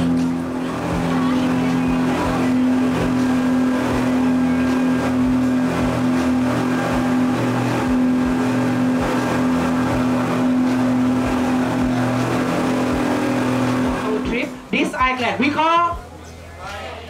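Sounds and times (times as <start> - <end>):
boat engines droning: 0.0 - 17.0.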